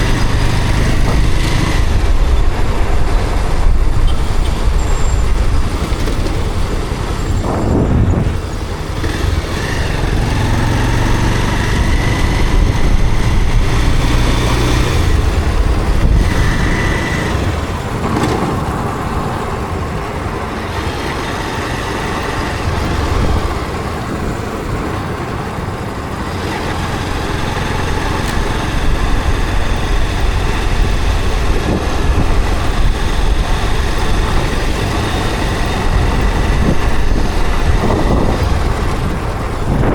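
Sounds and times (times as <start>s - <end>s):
motorcycle engine running: 0.0s - 39.9s
road traffic: 0.0s - 39.9s
wind rush: 0.0s - 39.9s.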